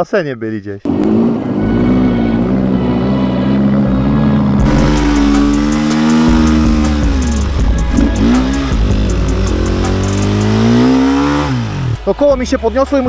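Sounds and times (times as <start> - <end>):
motorcycle engine revving: 0.9 - 12.1.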